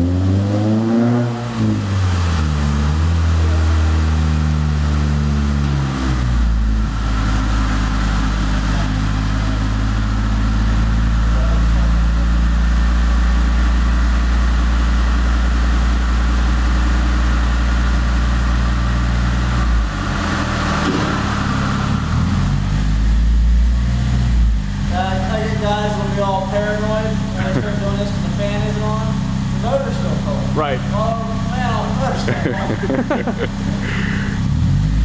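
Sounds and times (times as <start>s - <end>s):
car engine on dyno: 0.0s - 35.0s.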